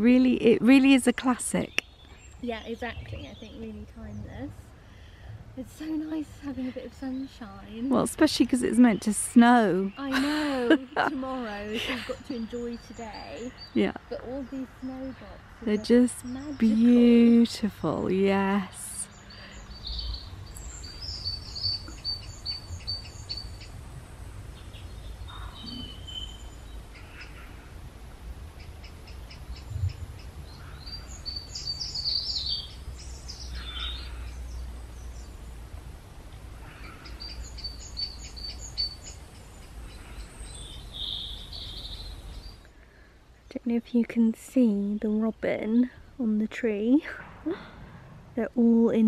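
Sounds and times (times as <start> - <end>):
steady low rumble: 0.0 - 44.3, 45.0 - 49.0
songbirds chirping: 0.0 - 49.0.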